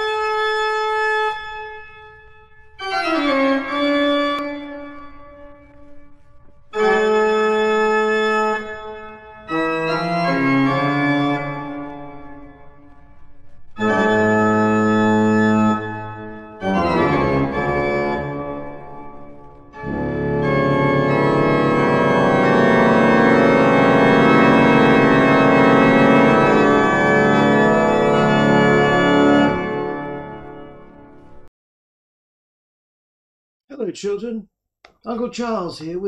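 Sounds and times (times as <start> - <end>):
sustained organ chords: 0.0 - 31.4.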